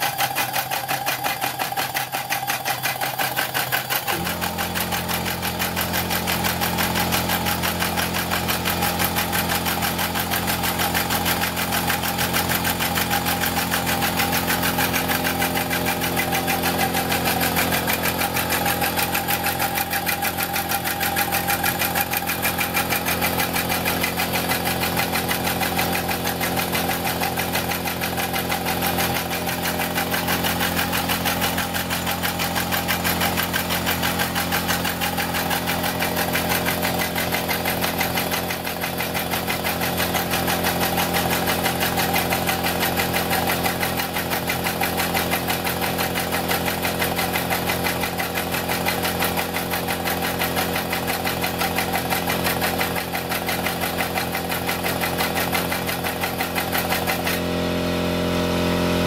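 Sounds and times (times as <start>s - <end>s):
miniature locomotive engine beat: 0.0s - 59.0s.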